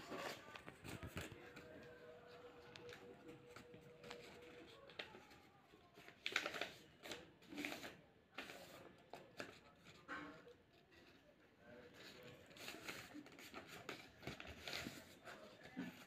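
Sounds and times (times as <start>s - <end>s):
paper crinkling: 0.0s - 10.1s, 11.8s - 16.0s
paper rustling: 0.0s - 10.1s, 11.8s - 16.0s.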